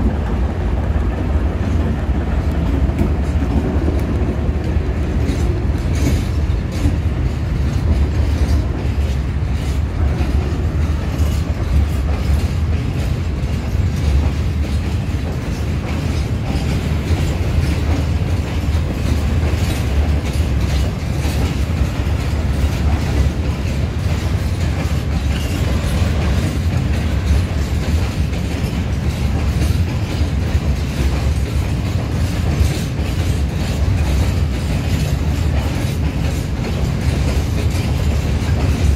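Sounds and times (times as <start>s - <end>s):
diesel locomotive rumble: 0.0s - 38.9s
wagon wheels clickety-clack: 1.2s - 38.9s.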